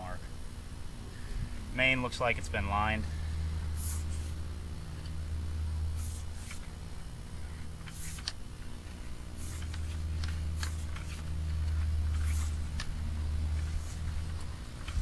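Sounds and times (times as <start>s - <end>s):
low equipment hum: 0.0s - 15.0s.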